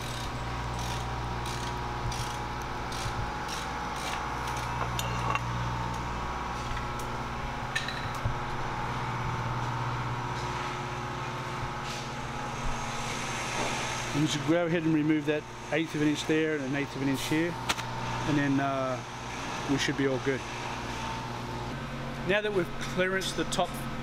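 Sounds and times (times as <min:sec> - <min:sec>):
low workshop hum: 0:00.0 - 0:24.0.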